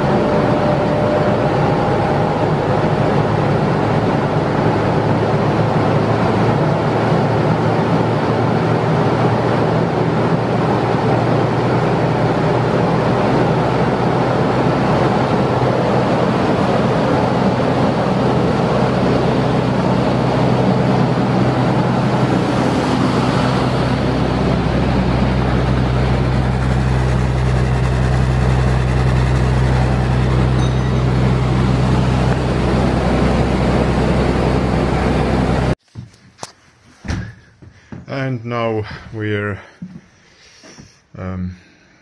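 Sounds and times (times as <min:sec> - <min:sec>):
bus engine running: 0:00.0 - 0:35.8.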